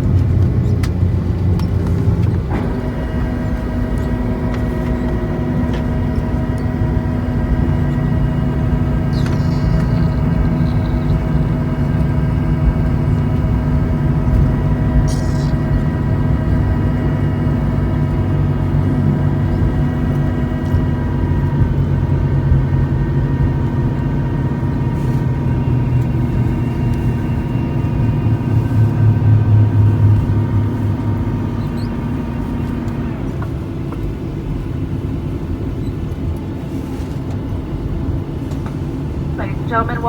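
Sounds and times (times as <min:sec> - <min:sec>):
airliner cabin rumble: 0:00.0 - 0:40.0
jet engine whine: 0:00.0 - 0:40.0.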